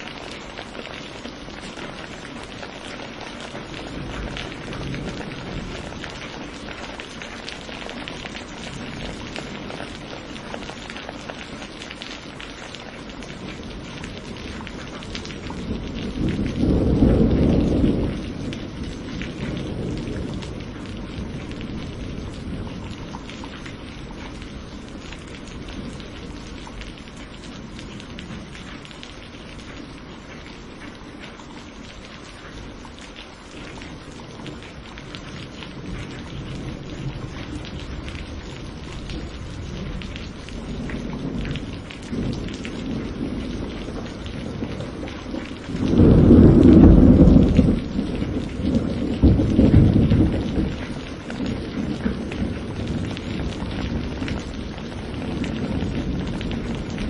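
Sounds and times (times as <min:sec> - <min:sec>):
thunder rumbling: 0:00.0 - 0:30.8, 0:31.7 - 0:57.0
steady rain: 0:00.0 - 0:57.0.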